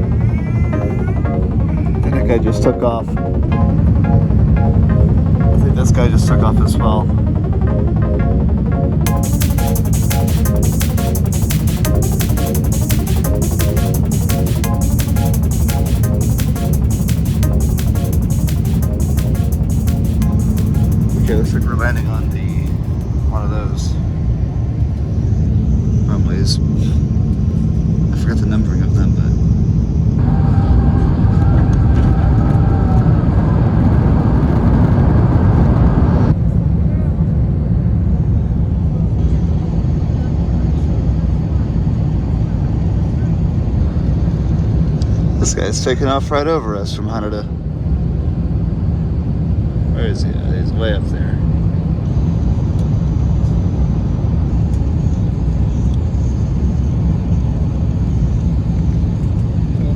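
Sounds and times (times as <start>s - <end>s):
airliner engines rumbling: 0.0s - 18.8s, 20.4s - 59.9s.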